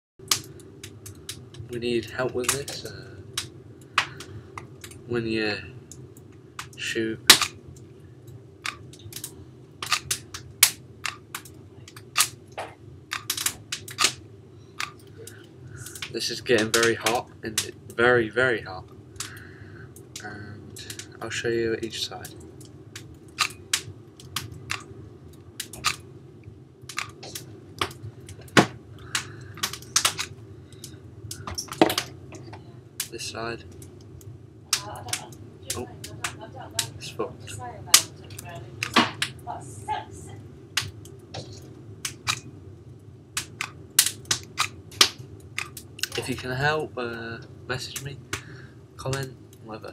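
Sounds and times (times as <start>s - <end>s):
steady low hum: 0.2s - 49.9s.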